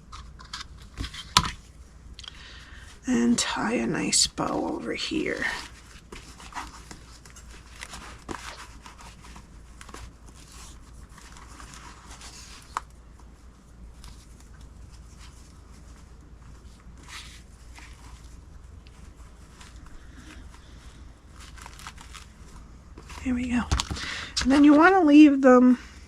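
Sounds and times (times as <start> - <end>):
ribbon rustling on a box: 3.4 - 25.1.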